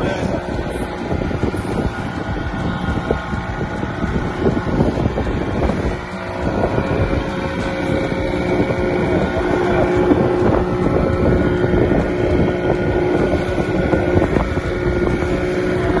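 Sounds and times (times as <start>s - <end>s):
motorboat engine running: 0.0s - 16.0s
wind buffeting microphone: 0.0s - 16.0s.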